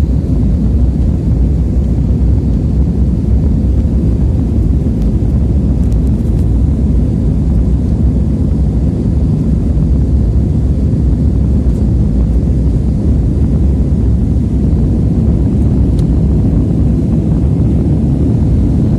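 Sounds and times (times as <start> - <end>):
airliner engines rumbling: 0.0 - 18.9.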